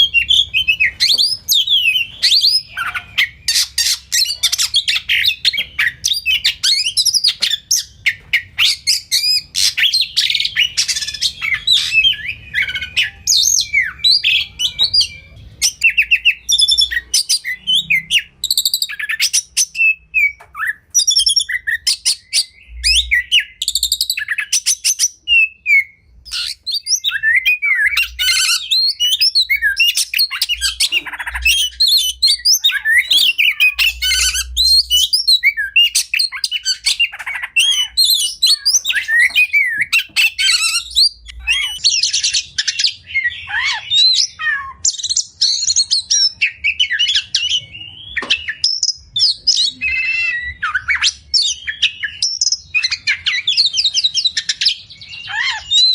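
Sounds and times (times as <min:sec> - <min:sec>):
magpie-robin singing: 0:00.0 - 0:55.9.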